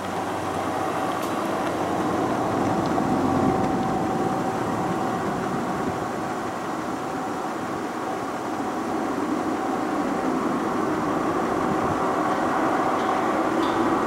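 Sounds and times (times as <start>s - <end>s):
locomotive engines running: 0.0s - 14.0s
steady whine: 0.0s - 14.0s.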